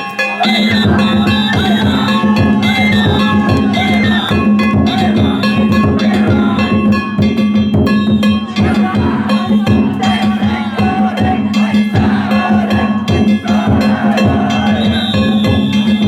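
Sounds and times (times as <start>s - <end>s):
small bronze gongs ringing: 0.0s - 16.0s
taiko drums: 0.0s - 16.0s.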